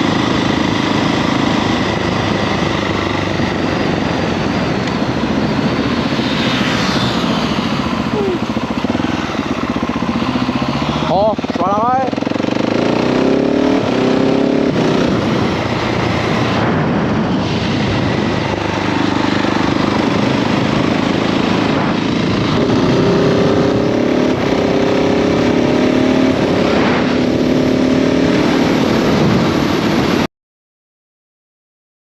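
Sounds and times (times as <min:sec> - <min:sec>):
motorcycle engine: 0:00.0 - 0:30.3
wind rush on microphone: 0:00.0 - 0:30.3.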